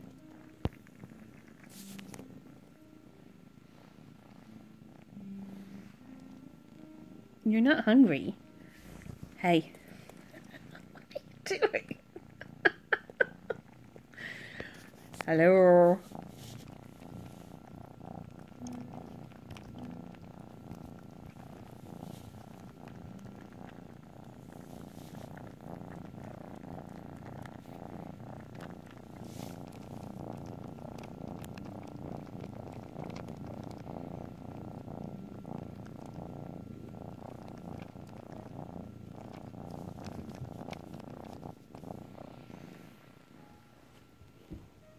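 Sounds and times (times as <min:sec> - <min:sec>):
kitten purring: 0:00.0 - 0:44.9.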